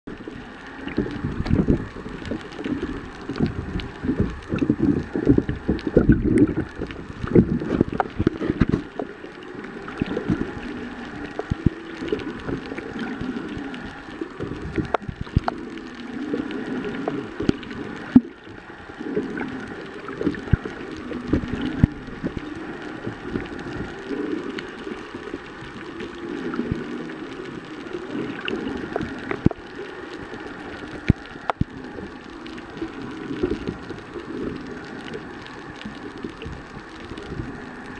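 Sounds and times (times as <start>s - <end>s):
underwater sloshing and rumbling: 0.1s - 37.9s.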